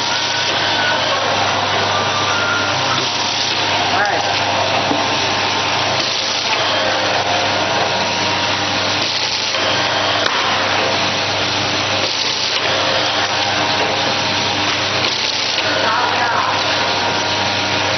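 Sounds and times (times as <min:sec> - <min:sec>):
packaging machine running: 0:00.0 - 0:17.9.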